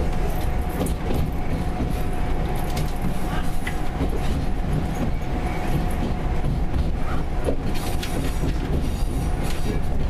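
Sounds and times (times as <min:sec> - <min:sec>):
train interior low rumble: 0:00.0 - 0:10.0.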